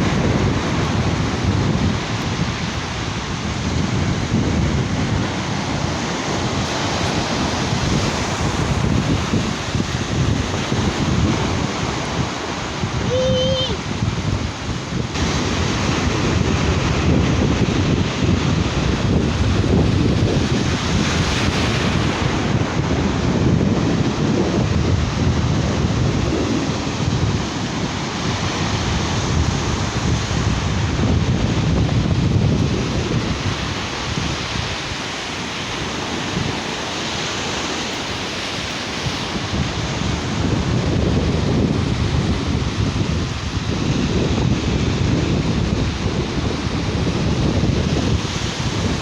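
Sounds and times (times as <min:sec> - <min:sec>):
sea surf washing onto beach: 0:00.0 - 0:49.0
wind buffeting microphone: 0:00.0 - 0:49.0.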